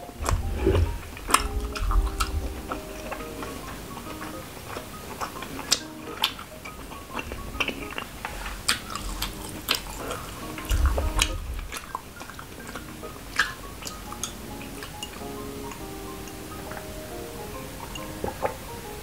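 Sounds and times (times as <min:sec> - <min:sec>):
wet chewing and mouth clicks: 0:00.0 - 0:18.9
soft background music: 0:00.0 - 0:19.0.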